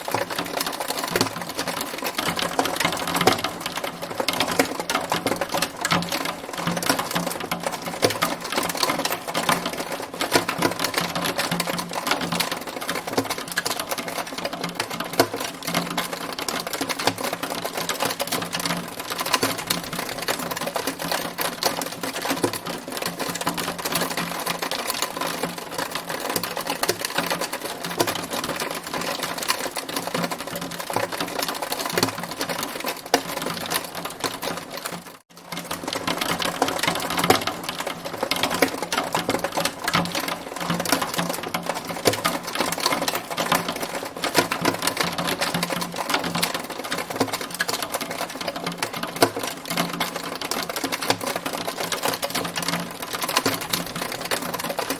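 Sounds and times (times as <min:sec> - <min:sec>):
hailstones striking hard surface: 0:00.0 - 0:54.9.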